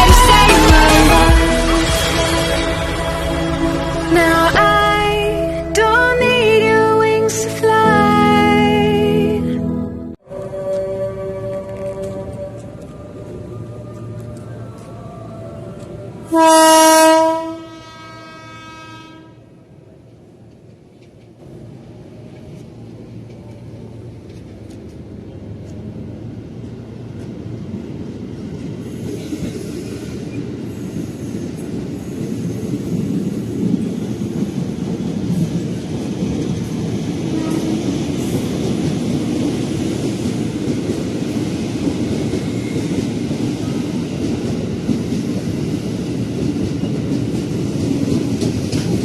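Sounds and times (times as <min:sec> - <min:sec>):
electric train rumbling: 0:00.0 - 0:09.3, 0:10.1 - 0:49.0.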